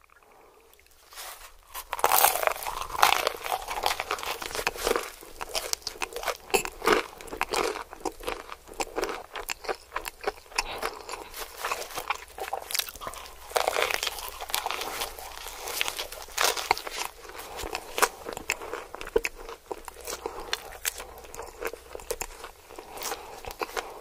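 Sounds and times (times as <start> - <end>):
crunchy chewing of fried chicken: 0.1 - 24.0.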